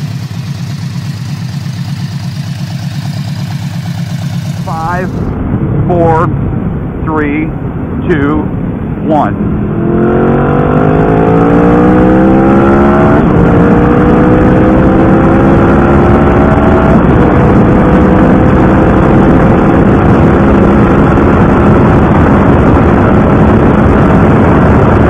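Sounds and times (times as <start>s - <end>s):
motorcycle engine accelerating: 0.0s - 6.6s, 9.4s - 25.0s
heavy wind noise: 0.0s - 25.0s.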